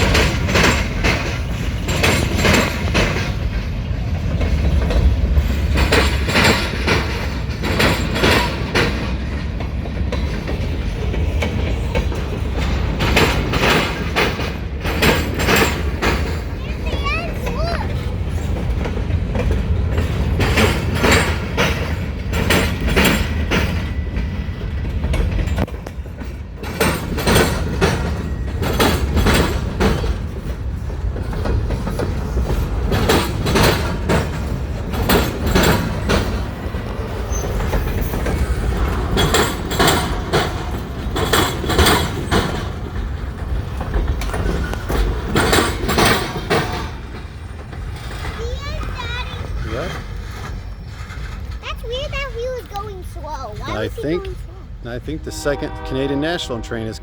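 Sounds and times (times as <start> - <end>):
freight train rumble: 0.0 - 57.0
train wheels clacking: 0.0 - 57.0.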